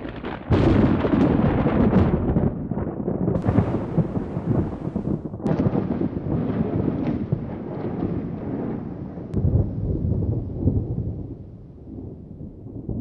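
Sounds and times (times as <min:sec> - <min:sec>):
thunder rolling and crackling: 0:00.0 - 0:13.0.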